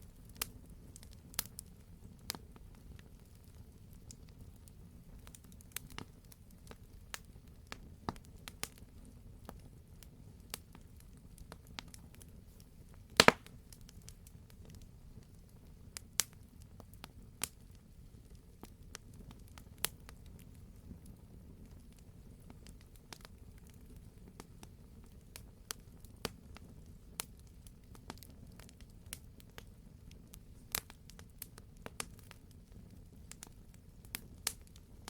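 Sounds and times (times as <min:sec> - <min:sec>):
fire crackles and pops: 0:00.0 - 0:35.0
low rumble of fire: 0:00.0 - 0:35.0.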